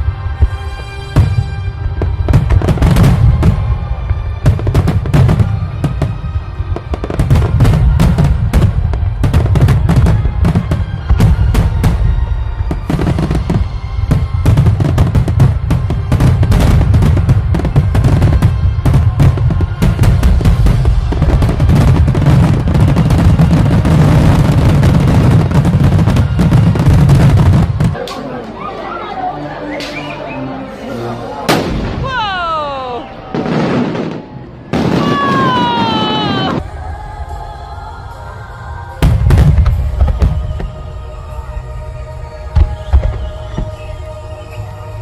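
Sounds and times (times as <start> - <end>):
fireworks bangs and crackles: 0.0 - 28.2, 31.5 - 37.3, 39.0 - 45.0
music playing: 0.0 - 45.0.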